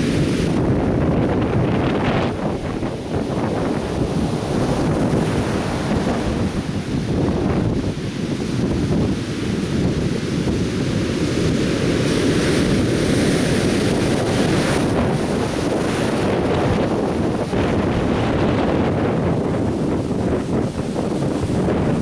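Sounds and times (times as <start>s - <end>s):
surf breaking on shore: 0.0s - 22.0s
wind rumble on microphone: 0.0s - 22.0s.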